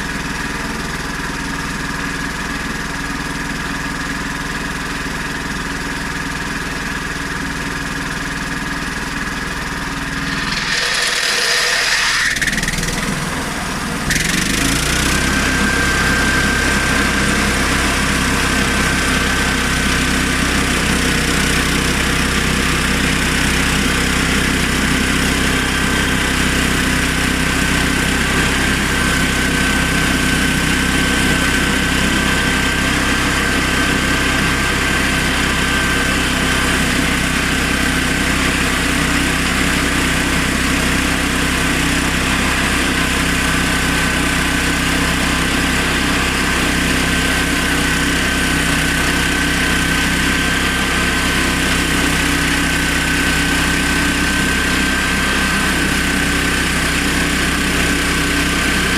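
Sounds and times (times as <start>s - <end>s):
petrol engine running steadily: 0.0s - 58.9s.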